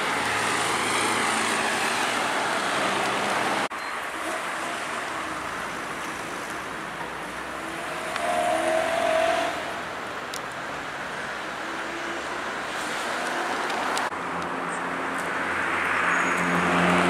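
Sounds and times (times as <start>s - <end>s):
cars passing by: 0.0s - 17.0s.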